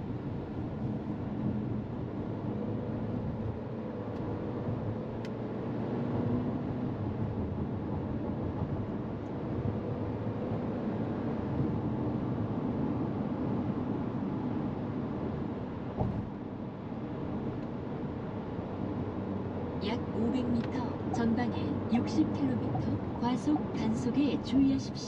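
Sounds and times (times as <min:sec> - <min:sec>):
road noise hum: 0:00.0 - 0:25.0.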